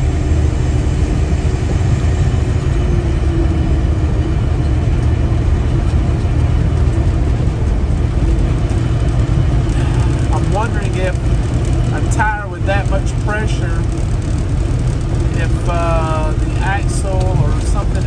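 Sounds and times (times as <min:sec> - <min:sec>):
diesel engine drone: 0:00.0 - 0:18.0
tyre and road noise: 0:00.0 - 0:18.0.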